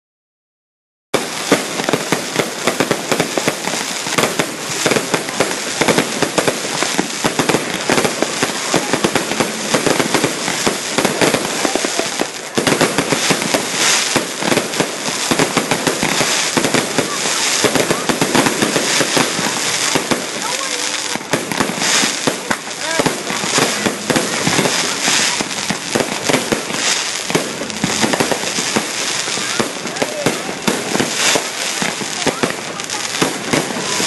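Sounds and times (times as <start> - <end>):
fireworks crackling: 1.2 - 34.0.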